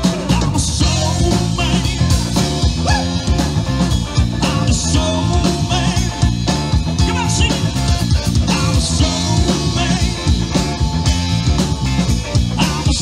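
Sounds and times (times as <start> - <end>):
drum kit beat: 0.0 - 13.0
electric guitar: 0.0 - 13.0.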